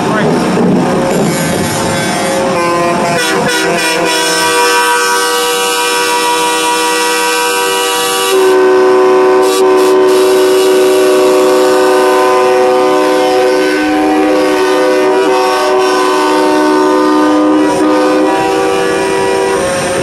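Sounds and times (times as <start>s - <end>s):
truck air horns blaring: 1.2s - 20.0s.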